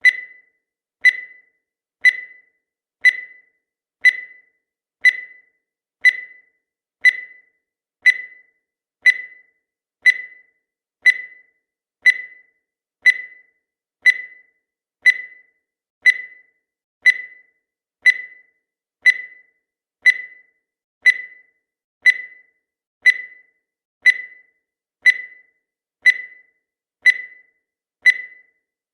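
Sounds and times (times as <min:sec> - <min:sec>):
timer ticking: 0:00.0 - 0:28.7.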